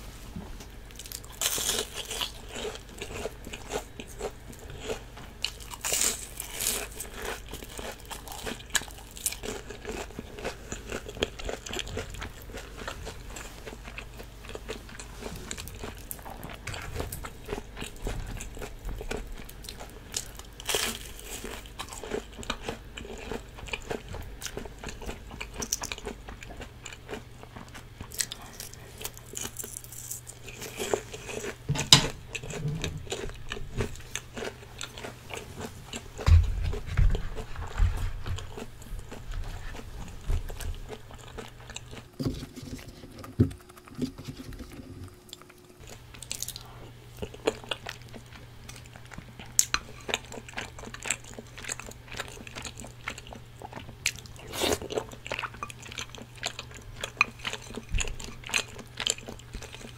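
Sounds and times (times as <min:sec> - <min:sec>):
crunching fried shrimp: 0:00.9 - 0:44.5, 0:45.1 - 0:59.9
chewing: 0:00.9 - 0:59.9.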